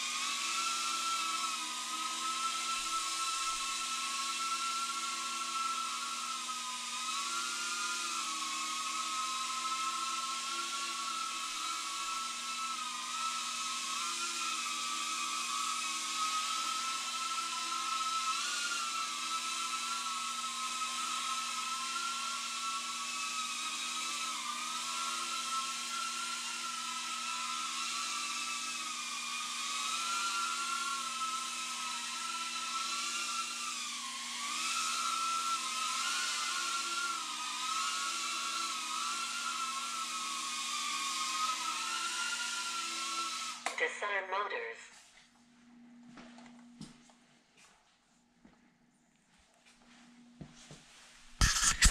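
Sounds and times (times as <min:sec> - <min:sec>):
quadcopter motors whining: 0:00.0 - 0:43.8, 0:51.4 - 0:51.9.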